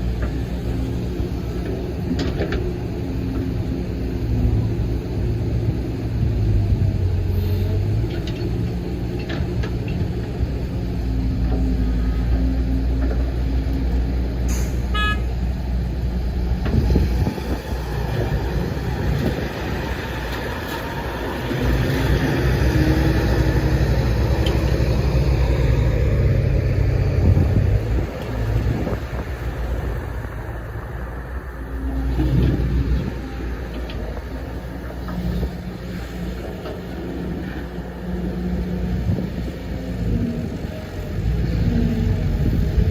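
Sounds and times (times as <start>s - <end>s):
excavator diesel engine under load: 0.0s - 42.9s.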